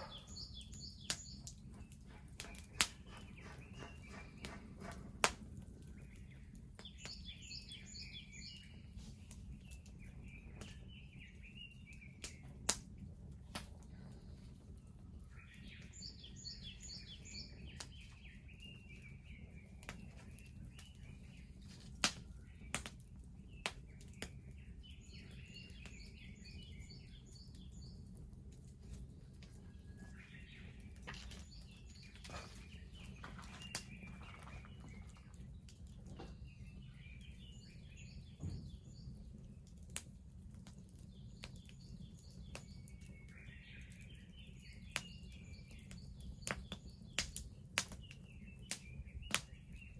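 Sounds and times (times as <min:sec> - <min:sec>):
songbird singing: 0:00.0 - 0:12.6, 0:15.0 - 0:28.2, 0:28.8 - 0:39.7, 0:41.0 - 0:49.9
bonfire rumbling: 0:00.0 - 0:49.9
fire crackling pops: 0:00.0 - 0:49.9.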